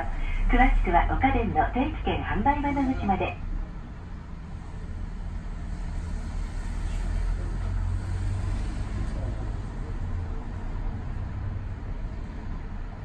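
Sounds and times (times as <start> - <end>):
road traffic noise: 0.0 - 13.0
streetcar low hum: 0.0 - 13.0.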